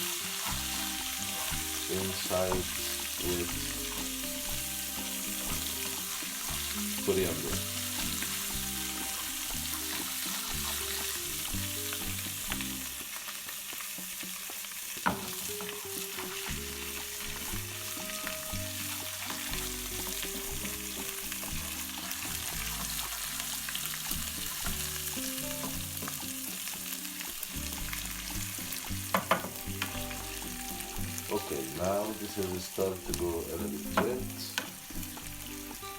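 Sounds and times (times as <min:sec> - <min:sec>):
garlic sizzling in a pan: 0:00.0 - 0:35.9.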